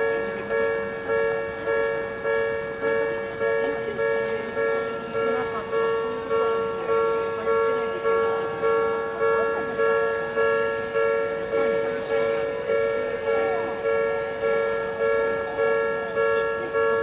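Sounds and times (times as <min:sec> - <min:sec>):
level crossing bell clanging: 0:00.0 - 0:17.0.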